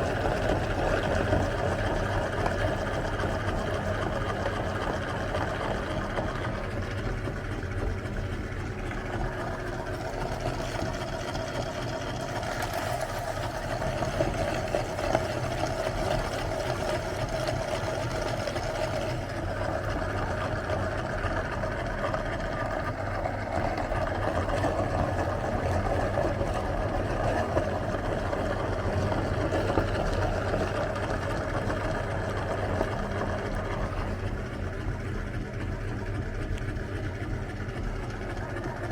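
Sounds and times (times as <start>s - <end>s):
electric meat grinder motor: 0.0s - 38.9s.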